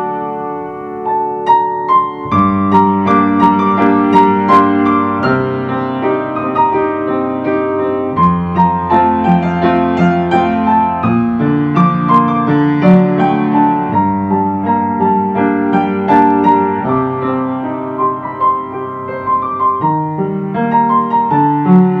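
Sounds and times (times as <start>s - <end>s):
calm piano music: 0.0s - 22.0s.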